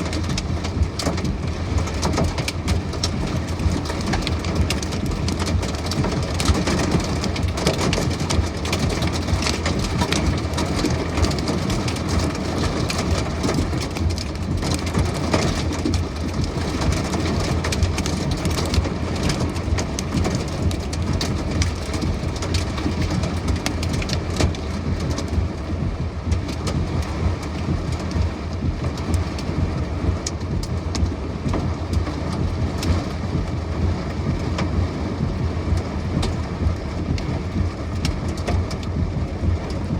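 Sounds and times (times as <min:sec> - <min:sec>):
heavy rain pelting: 0:00.0 - 0:39.9
low rumble: 0:00.0 - 0:39.9
raindrops tapping a surface: 0:00.0 - 0:39.9.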